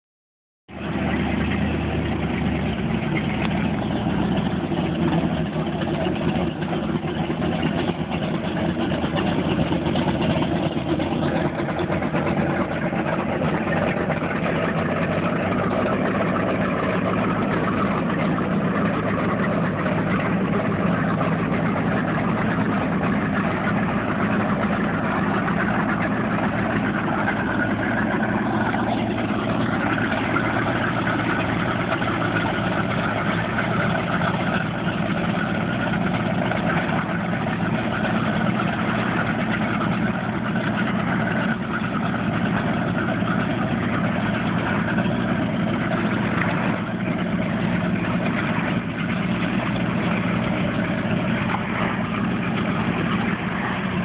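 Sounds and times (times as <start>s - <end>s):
speedboat engines idling: 0.7s - 54.0s.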